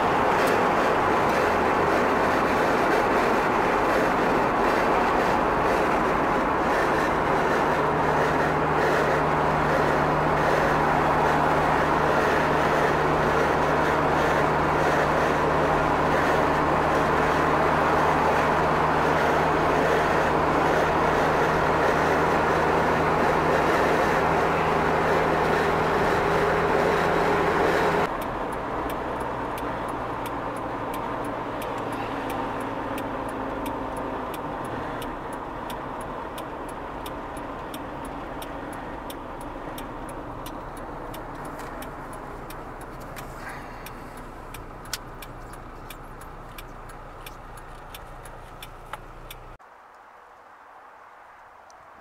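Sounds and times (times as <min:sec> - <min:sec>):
moving road vehicle: 0:00.0 - 0:52.0.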